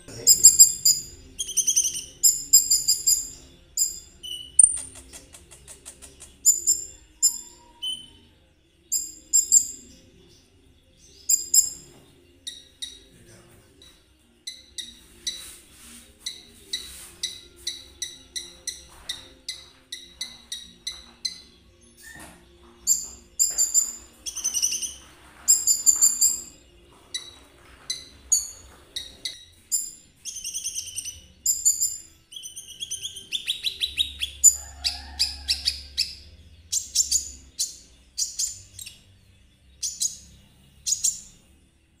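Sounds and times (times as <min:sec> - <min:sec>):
bird chirping and trilling: 0:00.0 - 0:10.4, 0:11.0 - 0:13.2, 0:13.8 - 0:15.6, 0:16.2 - 0:41.6.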